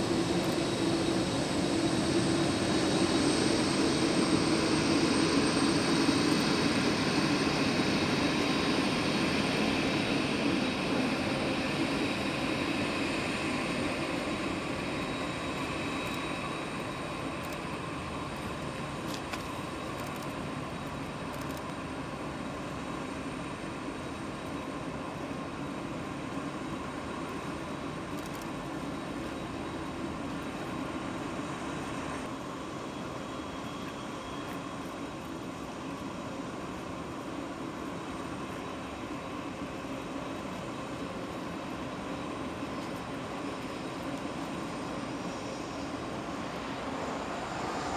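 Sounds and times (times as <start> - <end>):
jet engines rushing: 0.0 - 47.9.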